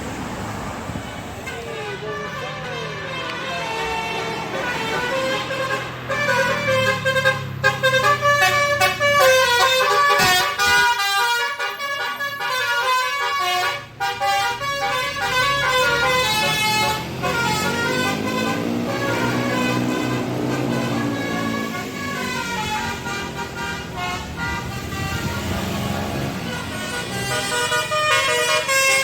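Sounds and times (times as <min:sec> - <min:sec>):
bus engine running: 0:00.0 - 0:29.0
multi-tone air horn tune: 0:01.4 - 0:29.0.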